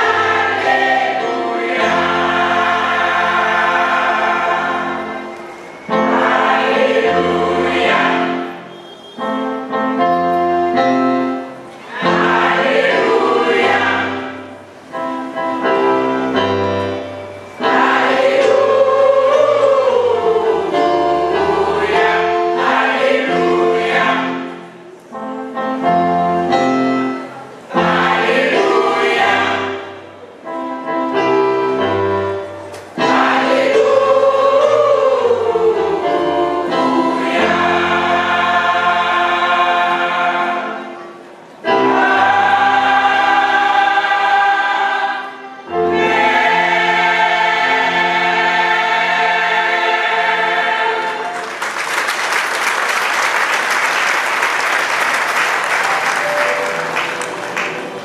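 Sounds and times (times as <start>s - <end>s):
electronic keyboard accompaniment: 0.0s - 51.6s, 54.1s - 58.0s
church choir singing: 0.0s - 58.0s.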